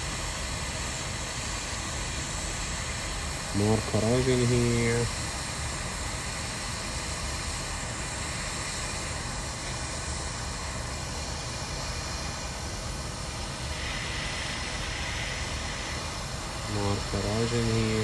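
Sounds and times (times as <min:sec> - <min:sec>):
hot air blower hissing: 0:00.0 - 0:18.0.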